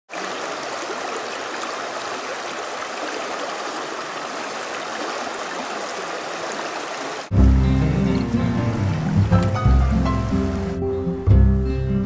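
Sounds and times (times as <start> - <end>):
creek flowing over riffles: 0.1 - 10.8.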